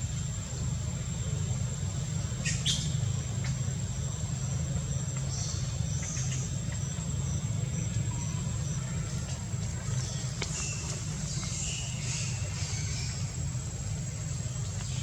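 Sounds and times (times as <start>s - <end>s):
low rumble of distant traffic: 0.0s - 15.0s.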